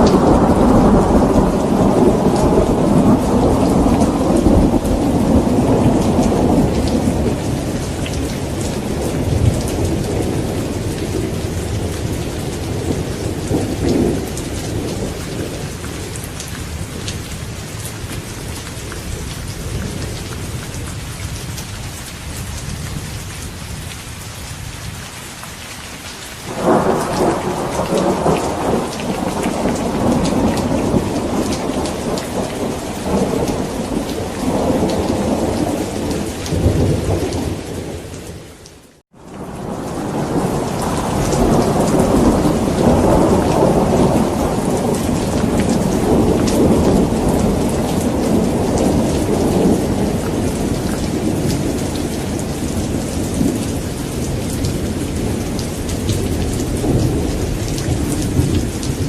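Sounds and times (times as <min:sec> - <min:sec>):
thunderclap: 0:00.0 - 0:16.1, 0:26.5 - 0:38.1, 0:39.3 - 0:59.0
thunder rumbling: 0:00.0 - 0:17.4, 0:26.5 - 0:38.4, 0:39.3 - 0:59.0
steady rain: 0:00.0 - 0:59.0.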